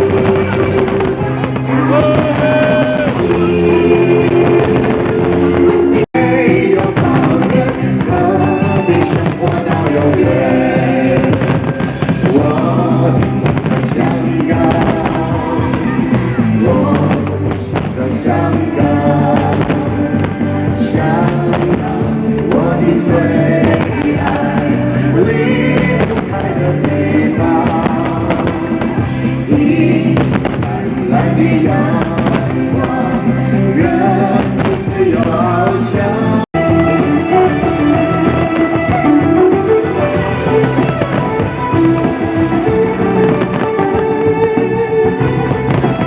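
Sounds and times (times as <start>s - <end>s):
fireworks bursting: 0.0s - 46.0s
pop music with singing: 0.0s - 46.0s.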